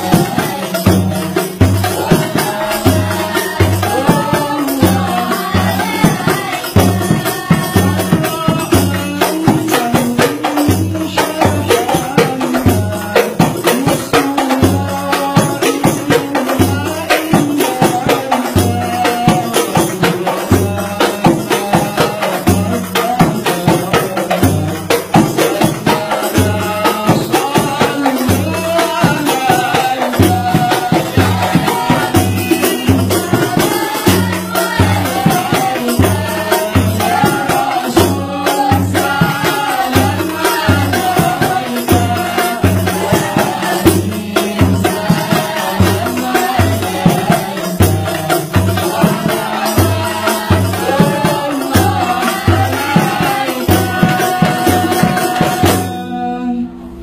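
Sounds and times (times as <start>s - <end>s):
frame drums beating: 0.0s - 56.1s
man singing into a microphone: 0.0s - 57.0s.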